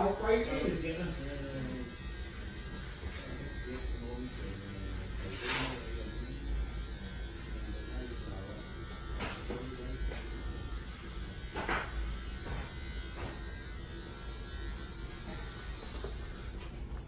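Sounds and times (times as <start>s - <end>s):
electric hair clippers buzzing: 0.0s - 17.0s.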